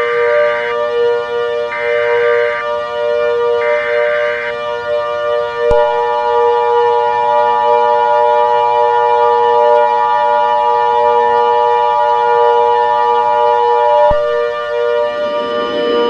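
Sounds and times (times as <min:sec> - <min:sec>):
low droning tone: 0:00.0 - 0:16.0
two-tone alarm: 0:00.0 - 0:16.0.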